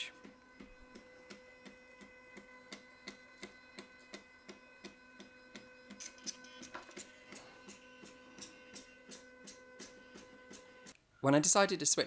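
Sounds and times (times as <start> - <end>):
faint motor whine: 0.0 - 11.0.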